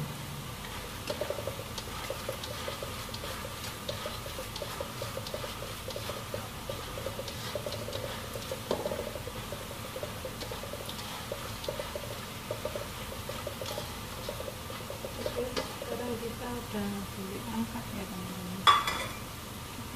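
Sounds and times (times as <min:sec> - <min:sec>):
food sizzling in hot oil: 0:00.0 - 0:19.8
spatula scraping pan: 0:00.6 - 0:17.1.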